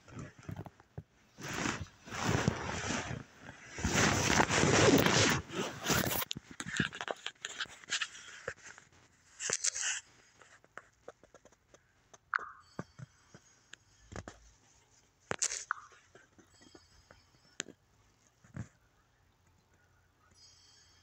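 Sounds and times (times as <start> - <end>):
phone rustling: 0.0 - 13.4, 14.1 - 17.8.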